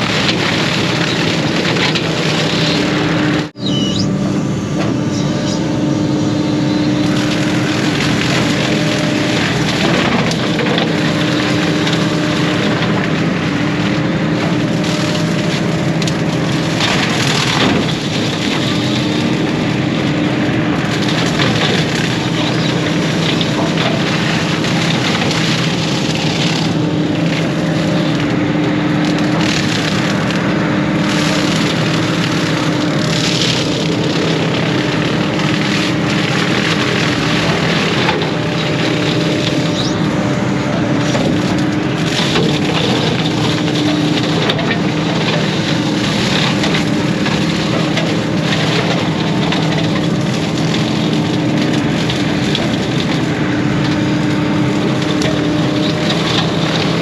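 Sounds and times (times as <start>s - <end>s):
heavy diesel machine running: 0.0s - 57.0s
brush crackling and snapping: 7.0s - 57.0s.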